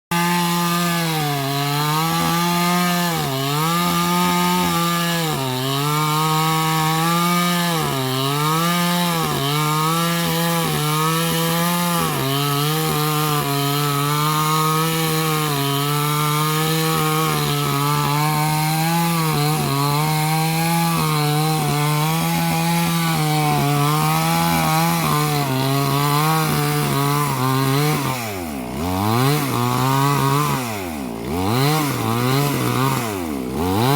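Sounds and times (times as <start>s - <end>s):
chainsaw cutting wood: 0.1s - 33.9s.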